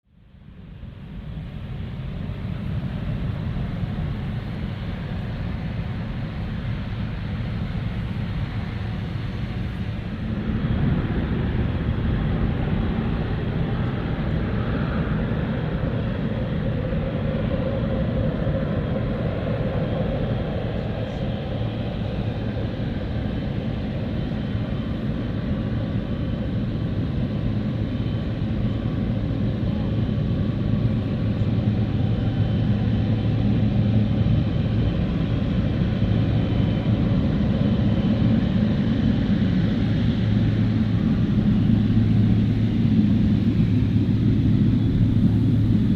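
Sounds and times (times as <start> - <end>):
jet engine rumble: 0.2 - 45.9.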